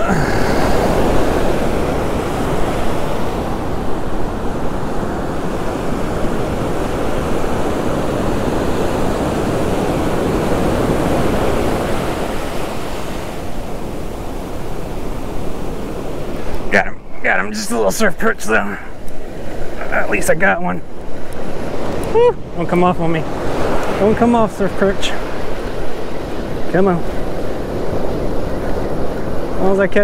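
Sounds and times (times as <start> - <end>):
ocean surf breaking: 0.0 - 30.0.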